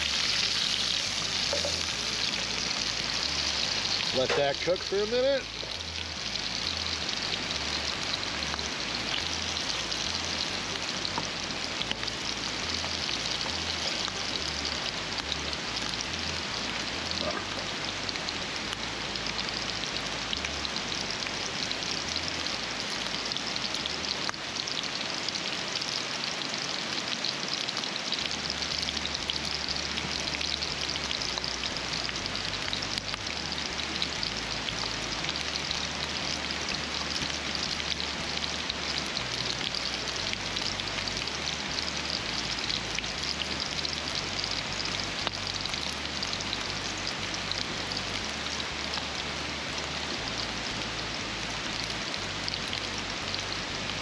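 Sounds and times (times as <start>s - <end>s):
sausages sizzling: 0.0s - 54.0s.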